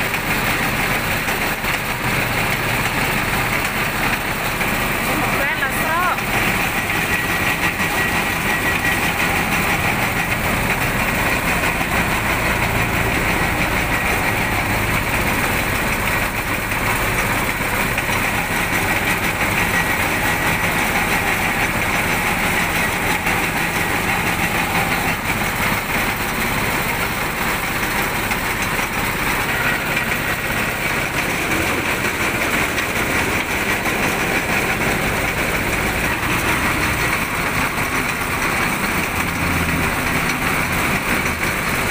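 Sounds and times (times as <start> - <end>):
motorised juice crusher running: 0.0 - 41.9.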